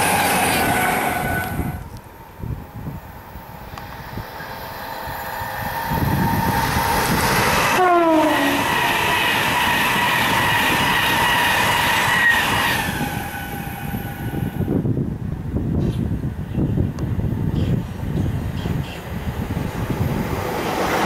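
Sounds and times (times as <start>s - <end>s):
train wheels rushing on rail: 0.0s - 21.0s.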